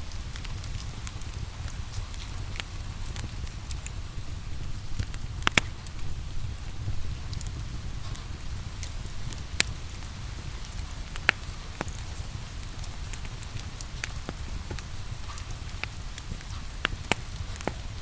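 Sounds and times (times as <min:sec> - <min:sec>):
steady rain: 0:00.0 - 0:18.0
wood fire crackling and popping: 0:00.0 - 0:18.0.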